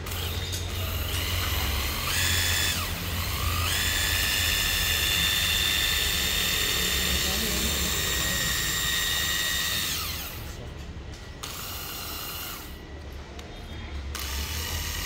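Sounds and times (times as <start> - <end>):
electric screwdriver whining: 0.0 - 10.6, 11.4 - 12.8, 14.1 - 15.0.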